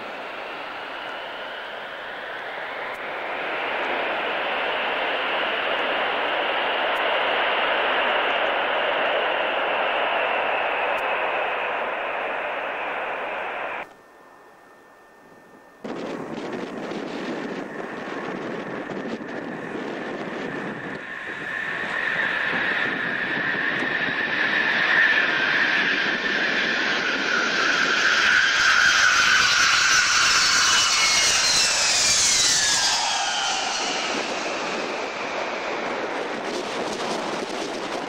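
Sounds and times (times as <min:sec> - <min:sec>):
jet engine roar and whine: 0:00.0 - 0:38.0.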